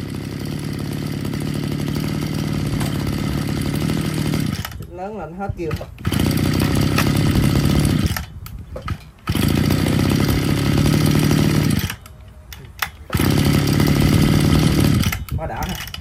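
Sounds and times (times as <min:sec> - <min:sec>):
brush cutter engine revving: 0:00.0 - 0:12.1, 0:12.7 - 0:16.0.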